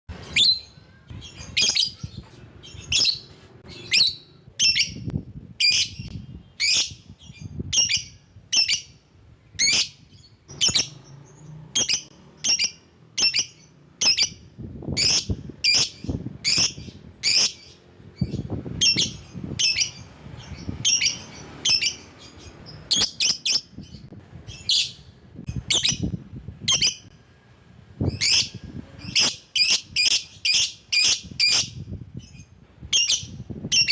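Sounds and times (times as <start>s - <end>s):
lovebird shrill chirps: 0.2s - 9.0s, 9.6s - 27.1s, 28.1s - 33.9s.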